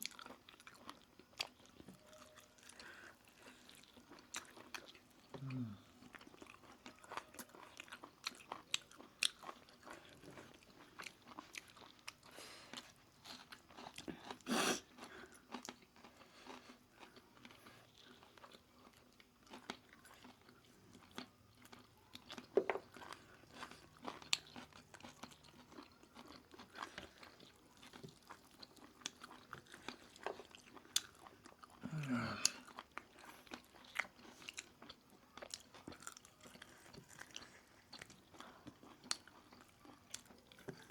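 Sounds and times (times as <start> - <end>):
close chewing and biting food: 0.0 - 40.9.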